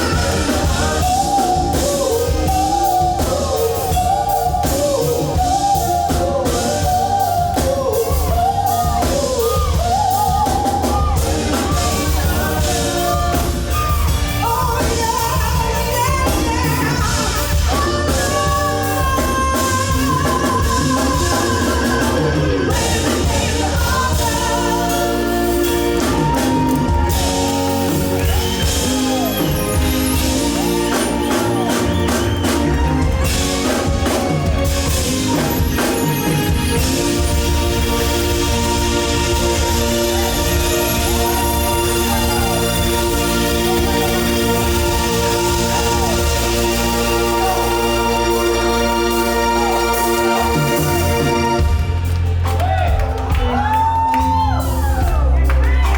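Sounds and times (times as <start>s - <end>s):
live band with drums and guitar: 0.0s - 55.9s.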